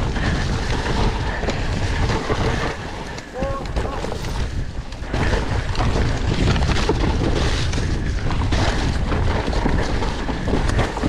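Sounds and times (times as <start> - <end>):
bike knocking and rattling: 0.0 - 11.0
tyres rolling on dirt: 0.0 - 11.0
wind on microphone: 0.0 - 11.0.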